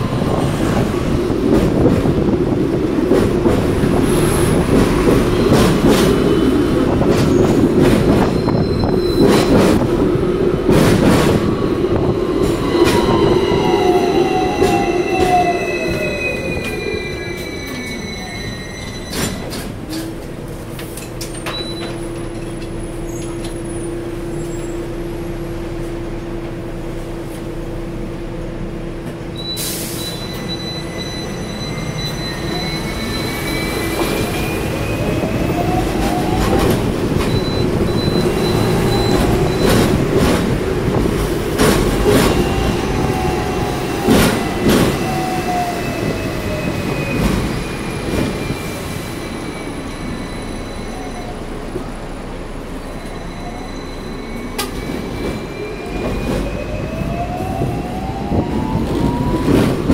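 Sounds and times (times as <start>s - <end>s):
tram motor hum and whine: 0.0s - 59.9s.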